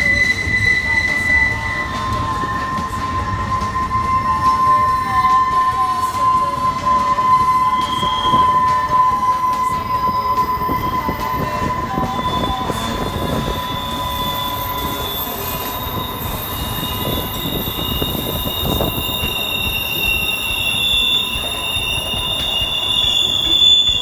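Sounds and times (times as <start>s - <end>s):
freight train wheels rolling on rails: 0.0s - 24.0s
high-pitched wheel flange squeal: 0.0s - 24.0s.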